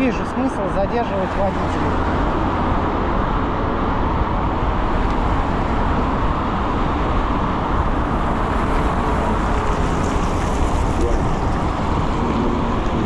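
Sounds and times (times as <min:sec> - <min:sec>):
road noise: 0:00.0 - 0:13.0
wind rush: 0:00.7 - 0:13.0.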